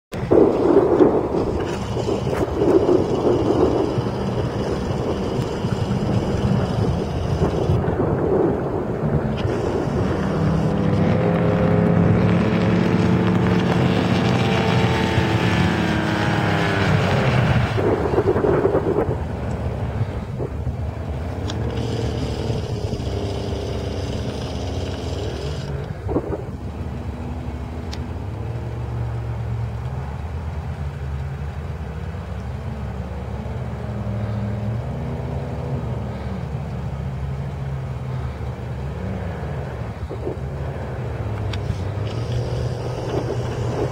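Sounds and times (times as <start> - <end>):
boat outboard motor: 0.1 - 43.9.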